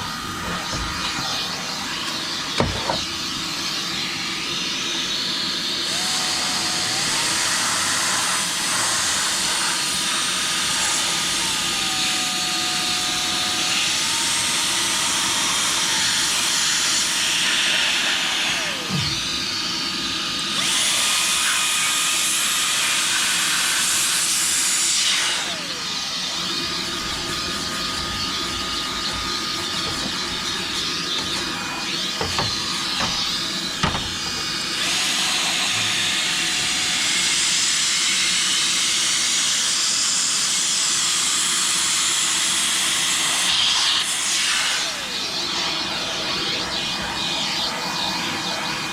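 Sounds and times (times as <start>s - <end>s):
air blower rush and motor whine: 0.0s - 48.9s.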